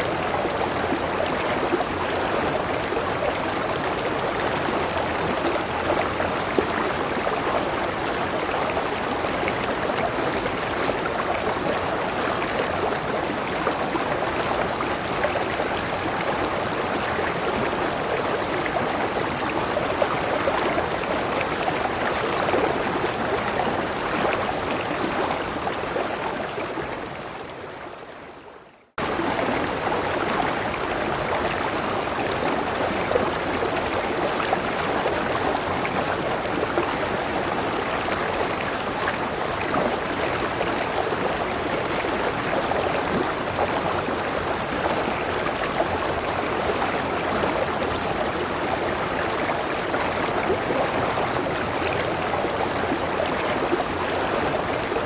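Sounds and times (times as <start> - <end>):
river water over small waterfall: 0.0 - 55.0.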